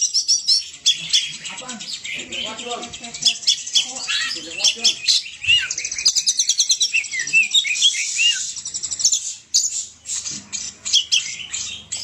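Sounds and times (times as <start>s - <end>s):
bird singing fast varied song: 0.0s - 12.0s.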